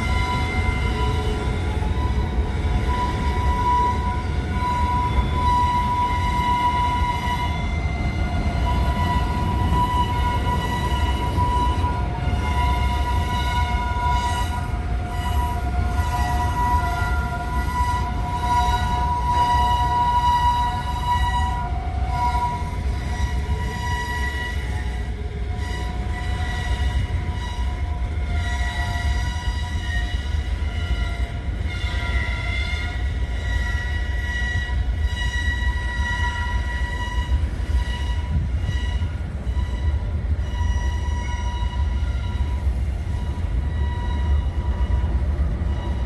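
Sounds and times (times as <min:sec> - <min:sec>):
steel wheels squealing: 0:00.0 - 0:46.0.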